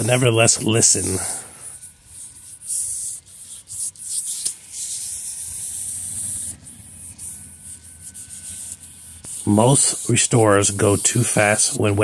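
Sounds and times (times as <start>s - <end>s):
sandpaper rubbing on plastic: 0.0s - 12.0s.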